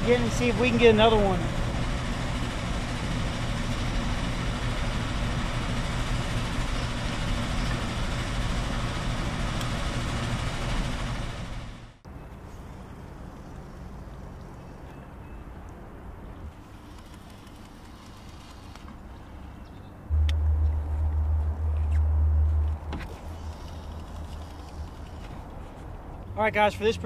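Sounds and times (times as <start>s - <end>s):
construction machinery humming: 0.0s - 27.0s.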